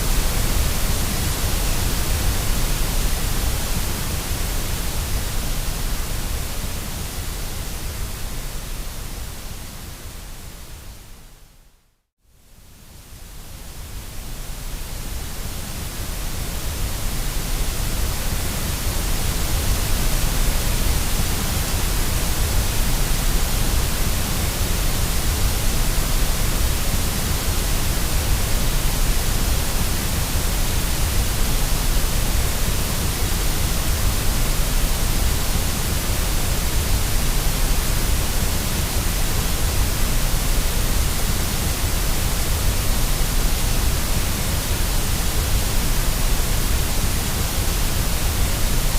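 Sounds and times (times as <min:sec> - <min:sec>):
white noise hiss: 0:00.0 - 0:48.9.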